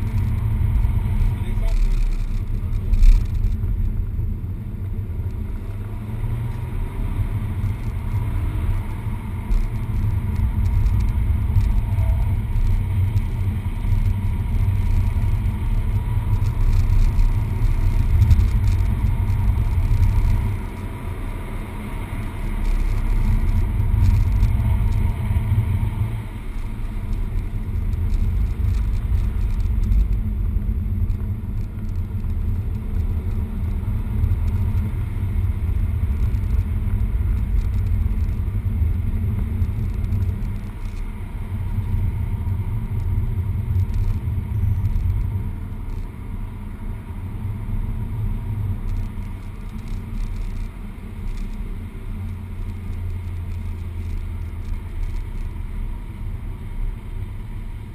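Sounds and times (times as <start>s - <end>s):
car engine rumbling under load: 0.0s - 57.9s
road noise: 0.0s - 57.9s.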